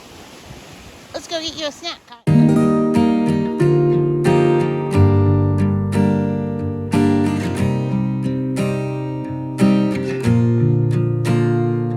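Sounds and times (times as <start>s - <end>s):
acoustic guitar strumming chords: 2.3s - 11.9s.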